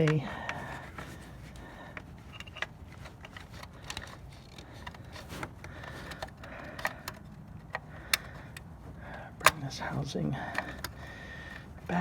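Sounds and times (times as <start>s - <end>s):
plastic parts clicking and tapping: 0.0s - 9.7s, 10.5s - 11.7s.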